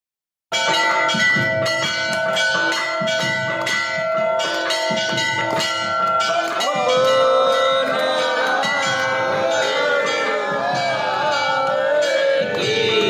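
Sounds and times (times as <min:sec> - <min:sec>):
music: 0:00.5 - 0:13.0
temple bells clanging rapidly: 0:00.5 - 0:13.0.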